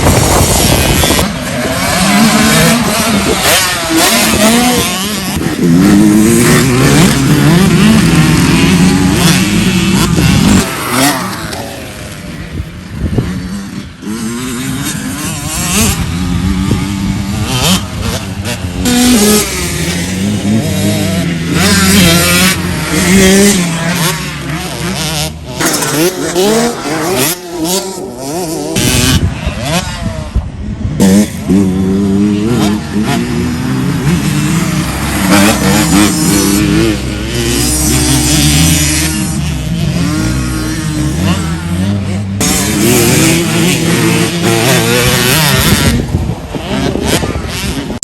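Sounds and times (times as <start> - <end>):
motocross bike engine revving: 0.0 - 48.0.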